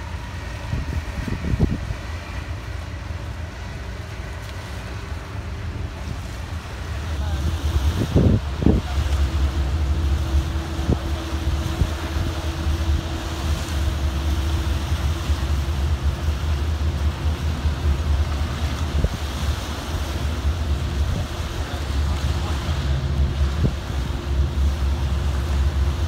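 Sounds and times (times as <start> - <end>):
wind buffeting microphone: 0.0 - 3.7, 5.4 - 26.0
faint steady hum: 0.0 - 26.0
harbour water washing: 0.0 - 26.0.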